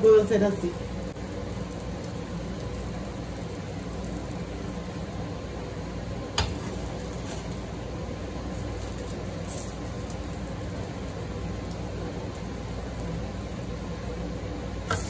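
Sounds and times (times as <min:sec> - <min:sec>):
batter sizzling in frying pan: 0:00.0 - 0:15.0.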